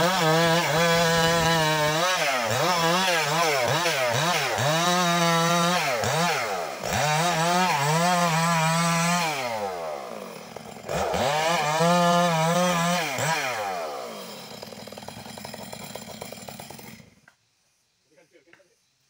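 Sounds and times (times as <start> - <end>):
chainsaw cutting a log: 0.0 - 17.3.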